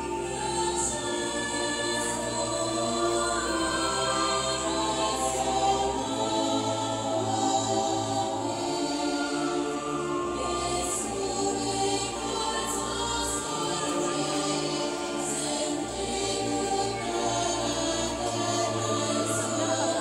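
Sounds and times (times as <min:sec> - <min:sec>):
choir singing long held chords: 0:00.0 - 0:20.0.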